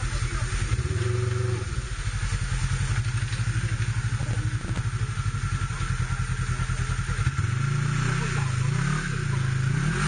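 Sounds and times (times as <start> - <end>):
engine running with pulsing beat: 0.0 - 10.0.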